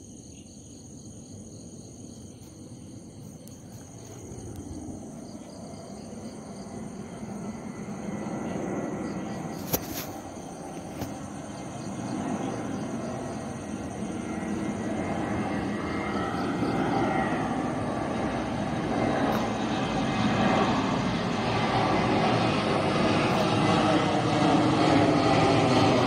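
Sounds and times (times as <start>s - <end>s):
airplane engine rumble: 0.0s - 26.0s.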